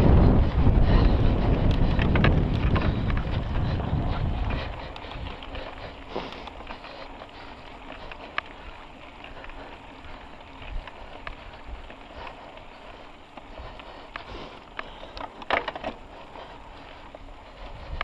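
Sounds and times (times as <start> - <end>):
bike rattling and knocking: 0.0 - 18.0
bike tyres crunching over dirt: 0.0 - 18.0.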